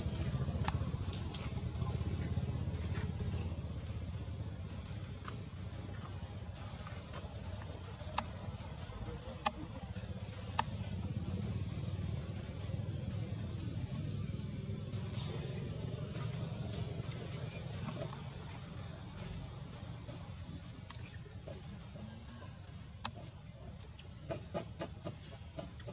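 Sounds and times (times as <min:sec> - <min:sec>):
steady low rumble: 0:00.0 - 0:23.1.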